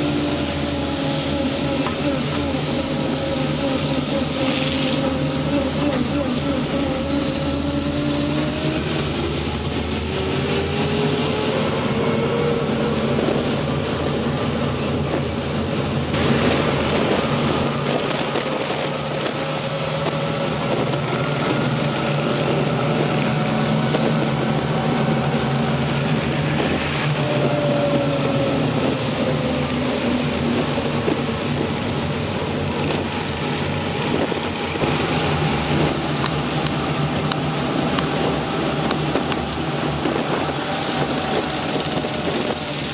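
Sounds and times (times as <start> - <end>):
tyre road noise: 0.0 - 42.9
vehicle engine: 0.0 - 42.9.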